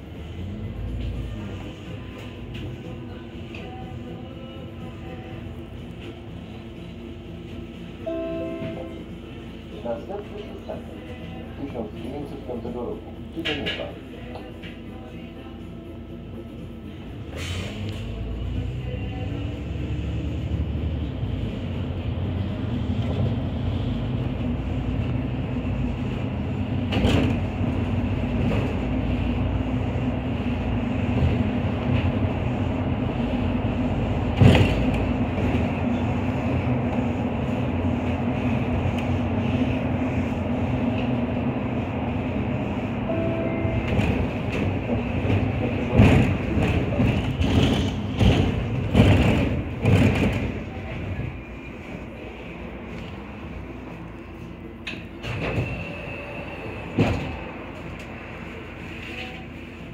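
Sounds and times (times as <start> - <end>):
bus interior running hum: 0.0 - 59.9.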